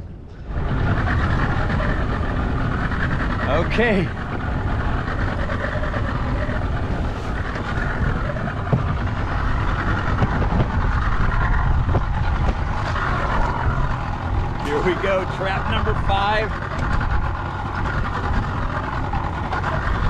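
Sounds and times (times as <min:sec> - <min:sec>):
wind buffeting microphone: 0:00.0 - 0:20.0
outboard motor running: 0:00.1 - 0:20.0.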